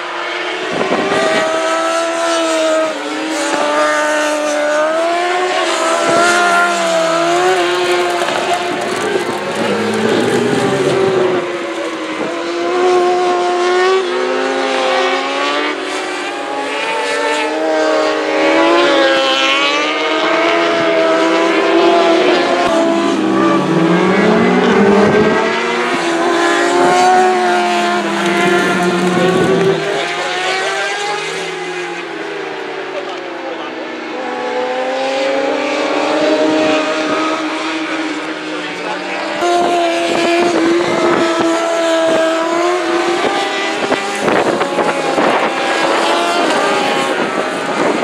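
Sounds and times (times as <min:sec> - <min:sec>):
motorcycle engines passing at speed: 0:00.0 - 0:48.0.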